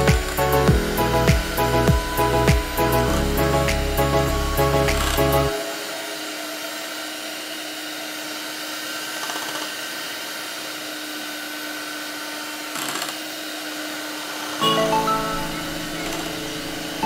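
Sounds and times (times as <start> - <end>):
electric hand mixer whisking: 0.0 - 17.0.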